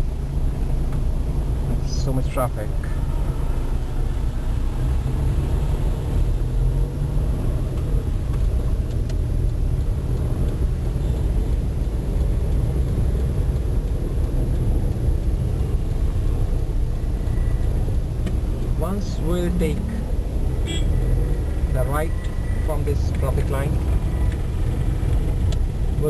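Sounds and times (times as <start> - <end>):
vehicle rumble in traffic: 0.0 - 26.0.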